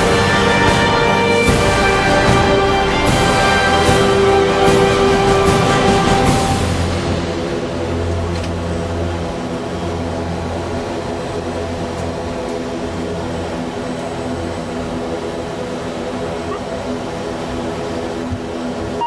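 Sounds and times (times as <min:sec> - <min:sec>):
turboprop engines droning: 0:00.0 - 0:19.0.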